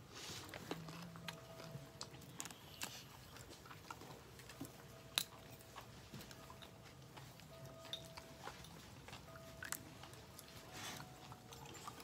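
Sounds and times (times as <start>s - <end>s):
chewing and crunching snack: 0.0s - 12.0s.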